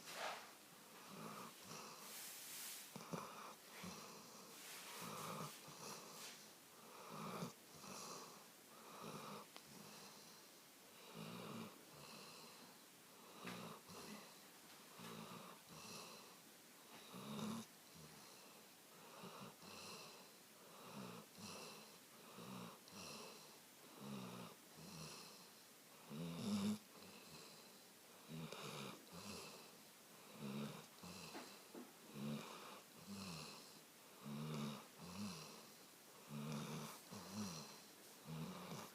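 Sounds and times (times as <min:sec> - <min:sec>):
dog snoring softly: 0:00.1 - 0:38.9.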